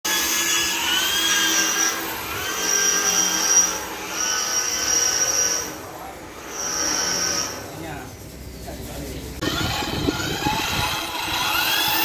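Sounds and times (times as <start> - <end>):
power tool whining: 0.1 - 7.8, 9.4 - 12.0.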